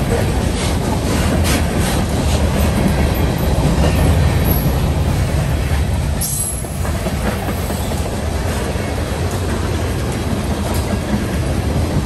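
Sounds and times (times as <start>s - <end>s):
railcars rolling on track: 0.0s - 12.0s.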